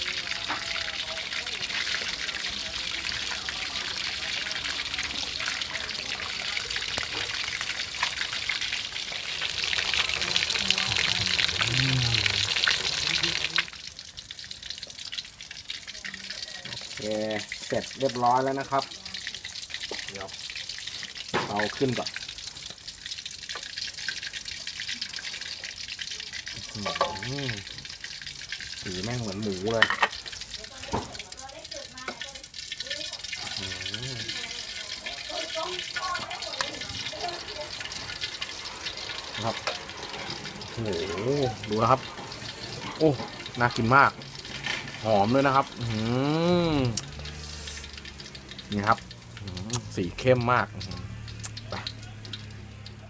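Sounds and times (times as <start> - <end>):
fish frying in oil: 0.0 - 53.0.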